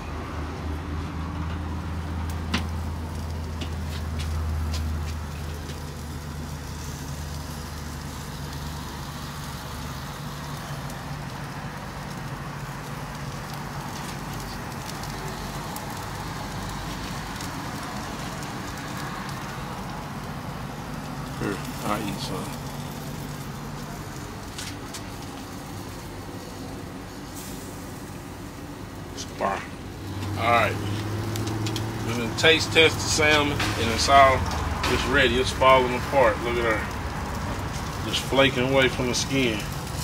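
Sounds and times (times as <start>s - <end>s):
food sizzling on a grill: 0.0s - 40.0s.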